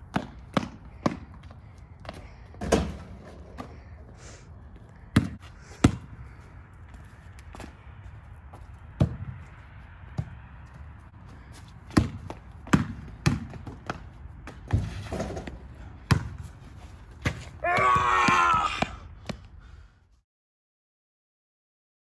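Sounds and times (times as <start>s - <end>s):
basketball bouncing on asphalt: 0.0s - 3.9s, 4.7s - 19.5s.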